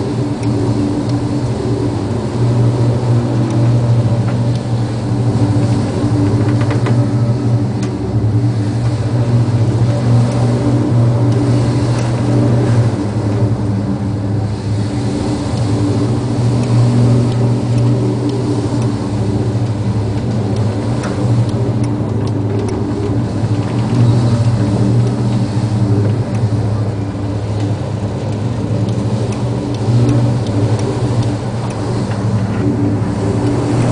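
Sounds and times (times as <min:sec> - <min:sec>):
ship engines droning: 0:00.0 - 0:33.9
storm wind and sea hiss: 0:00.0 - 0:33.9.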